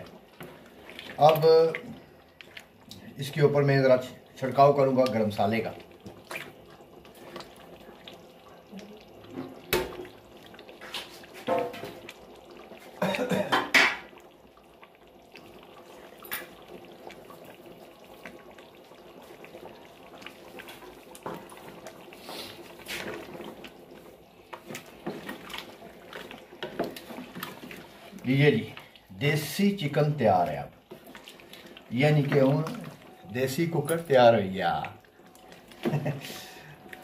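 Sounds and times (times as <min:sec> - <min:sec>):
curry simmering: 0:00.0 - 0:37.0.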